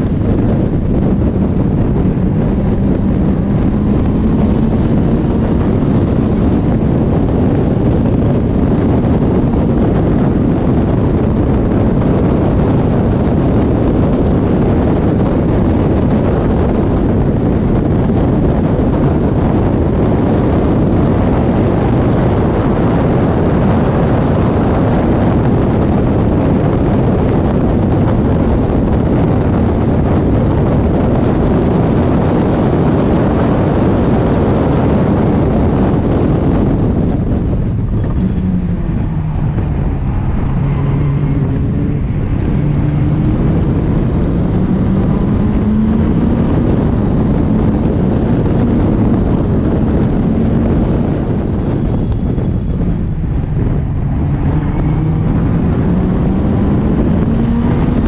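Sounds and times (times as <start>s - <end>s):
car engine running hard: 0.0s - 58.0s
wind noise on microphone: 0.0s - 58.0s.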